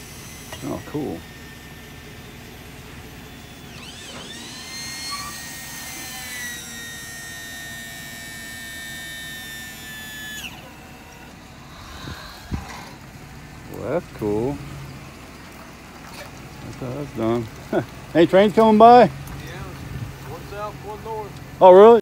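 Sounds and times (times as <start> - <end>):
hydraulic pump whining: 0.0 - 22.0.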